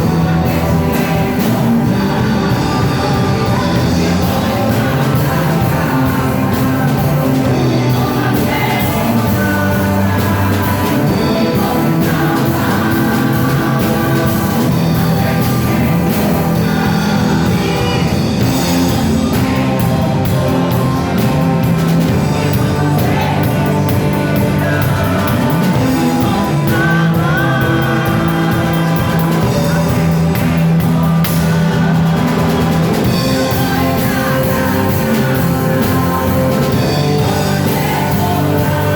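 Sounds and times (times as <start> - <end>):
band with guitars bass drums: 0.0 - 38.9
person singing amplified: 0.0 - 38.9.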